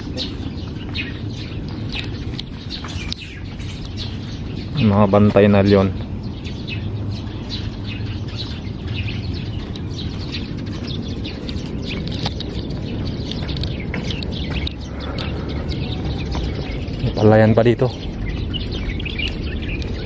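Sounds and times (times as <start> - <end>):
small birds chirping: 0.0 - 20.0
steady low noise: 0.0 - 20.0.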